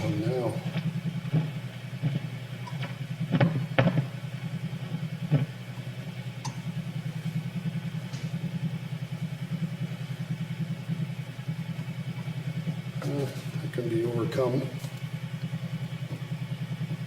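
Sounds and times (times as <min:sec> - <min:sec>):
radio speaker pulsing buzz: 0:00.0 - 0:17.0.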